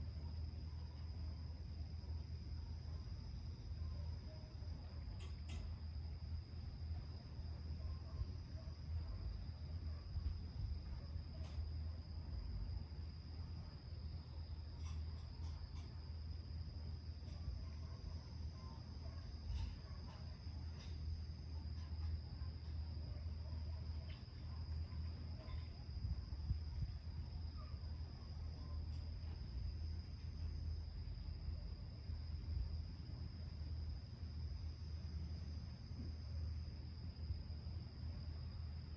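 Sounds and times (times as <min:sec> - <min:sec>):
continuous high insect trill: 0:00.0 - 0:38.9
crickets chirping: 0:00.0 - 0:38.9.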